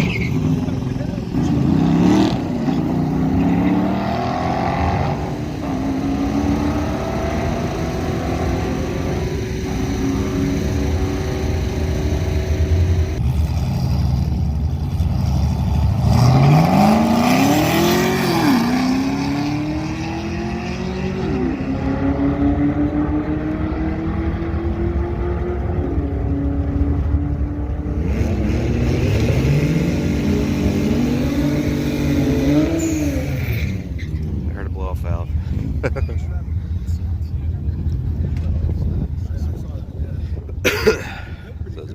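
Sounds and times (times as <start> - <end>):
car engine accelerating hard: 0.0 - 35.2.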